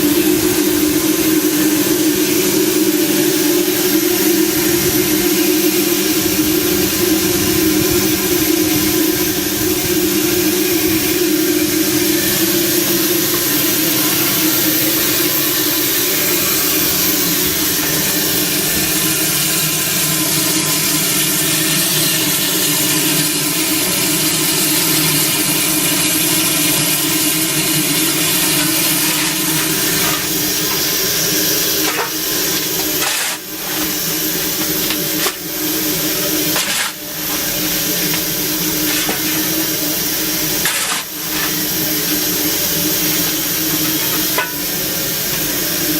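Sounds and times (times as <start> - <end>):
loud hiss of steam: 0.0 - 45.9.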